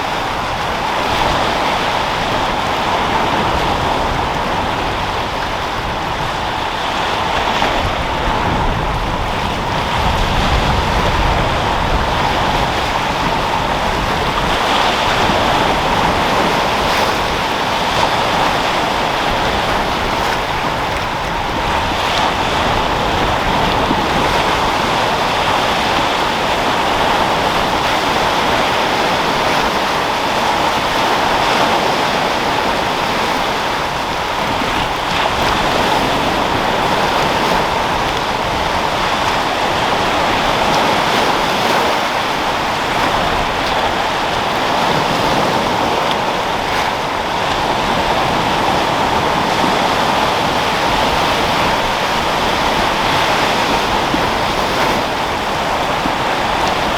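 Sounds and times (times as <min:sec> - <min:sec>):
sea waves breaking: 0:00.0 - 0:56.9
wind: 0:00.0 - 0:56.9.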